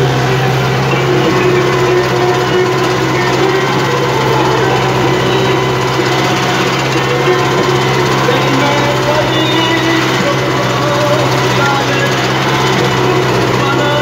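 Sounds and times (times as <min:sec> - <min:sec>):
tractor engine running under load: 0:00.0 - 0:14.0.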